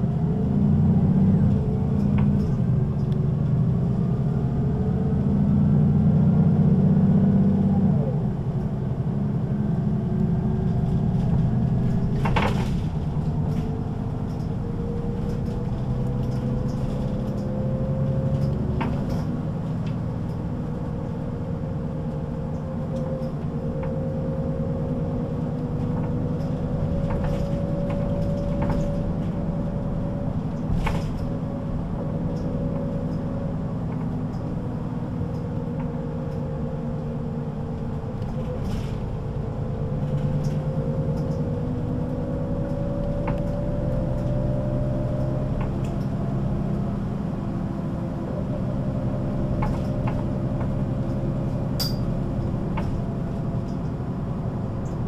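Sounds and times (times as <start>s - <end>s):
bus diesel engine drone: 0.0s - 55.0s.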